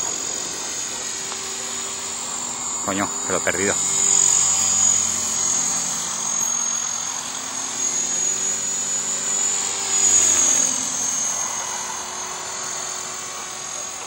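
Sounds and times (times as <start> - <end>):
model helicopter rotor hum: 0.0 - 14.0.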